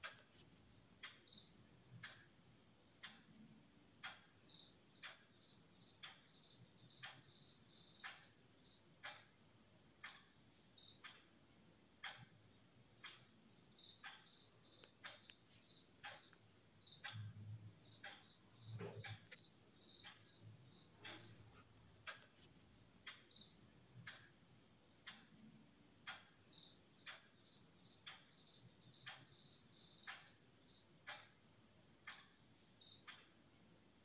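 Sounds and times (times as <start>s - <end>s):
faint even ticking: 0.0s - 9.4s, 13.0s - 31.4s.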